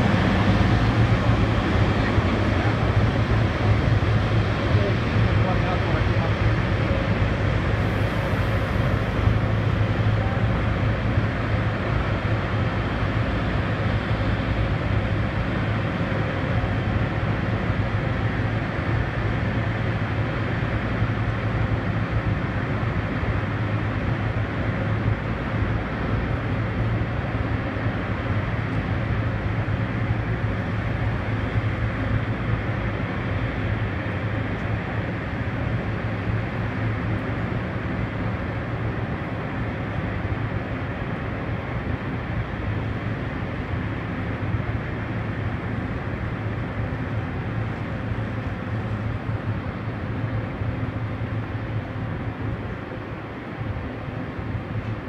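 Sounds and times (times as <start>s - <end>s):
constant low hum: 0.0s - 55.0s
wheels rumbling on rails: 0.0s - 55.0s.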